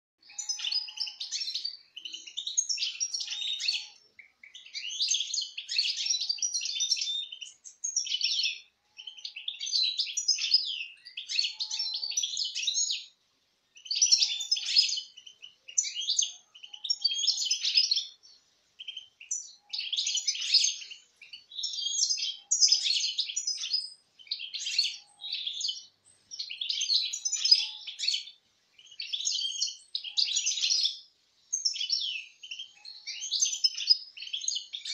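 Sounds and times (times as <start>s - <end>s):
finches twittering song: 0.2s - 34.9s.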